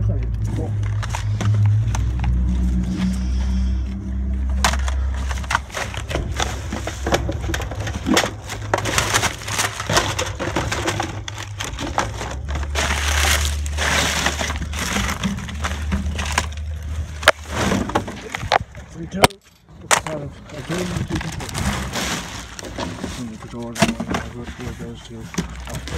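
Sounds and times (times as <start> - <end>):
plastic bags rustling: 0.5 - 25.9.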